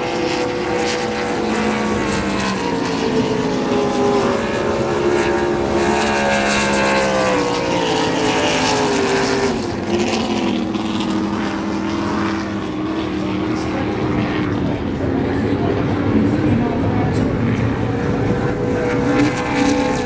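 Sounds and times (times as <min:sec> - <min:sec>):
race boat engines passing: 0:00.0 - 0:20.0.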